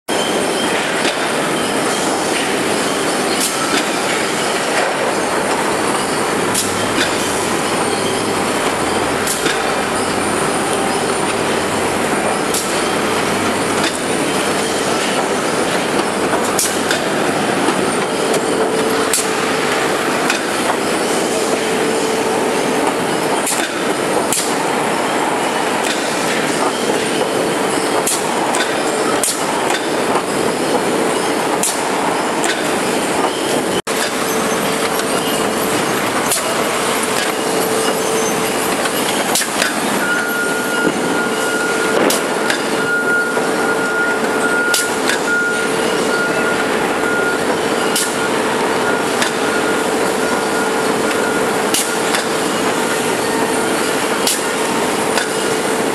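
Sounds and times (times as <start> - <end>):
mill machinery din: 0.1 - 55.9.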